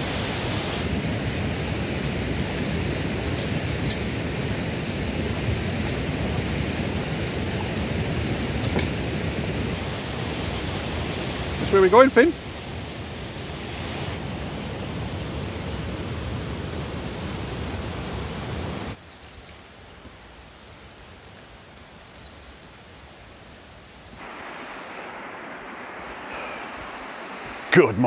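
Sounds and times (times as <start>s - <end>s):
rushing outdoor noise: 0.0s - 28.0s.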